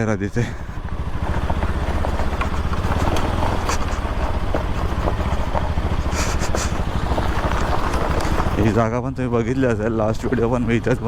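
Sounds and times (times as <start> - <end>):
motorcycle engine pulsing: 0.0 - 11.0.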